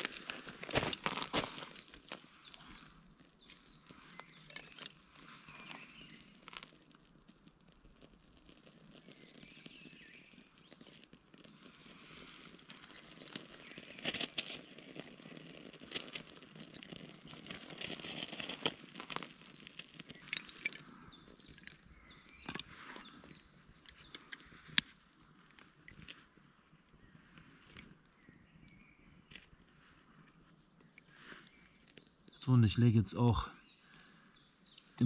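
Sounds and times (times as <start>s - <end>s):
tinder rustling and crackling: 0.0s - 32.7s, 33.3s - 35.0s.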